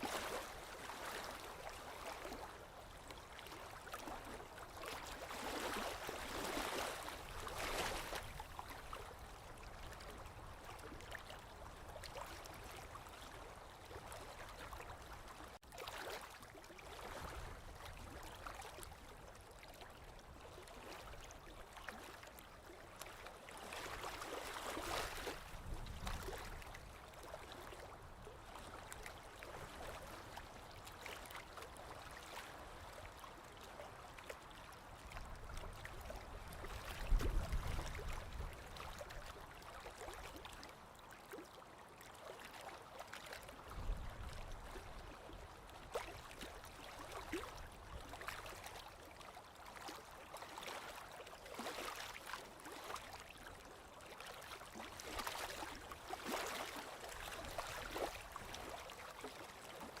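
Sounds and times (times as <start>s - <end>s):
small waves lapping: 0.0s - 60.0s.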